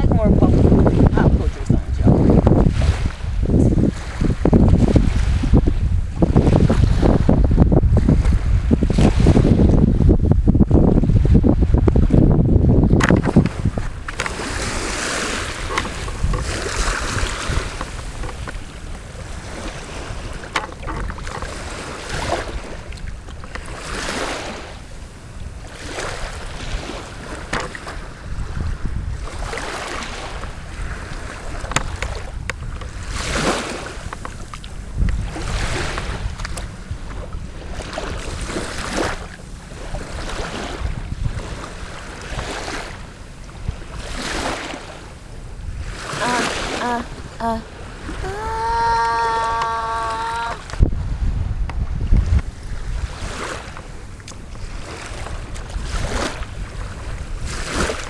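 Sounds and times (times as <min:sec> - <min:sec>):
small waves washing ashore: 0:00.0 - 0:10.1, 0:11.0 - 0:58.0
wind rumbling on microphone: 0:00.0 - 0:58.0.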